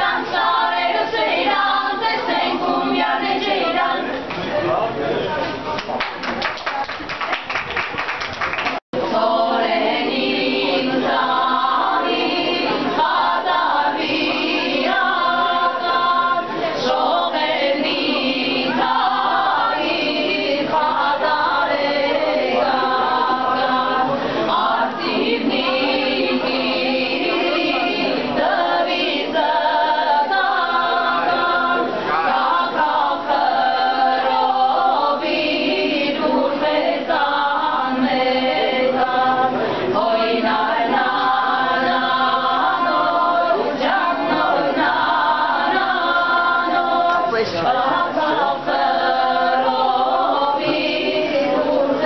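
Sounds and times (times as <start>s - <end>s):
women singing a cappella: 0.0s - 4.3s, 9.0s - 52.0s.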